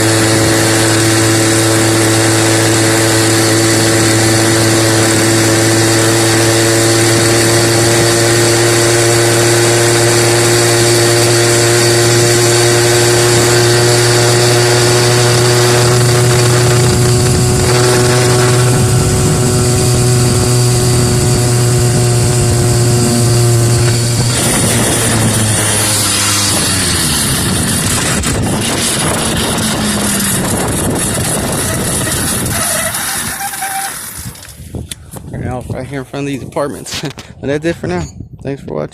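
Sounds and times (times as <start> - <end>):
two-stroke engine at high revs: 0.0 - 34.6.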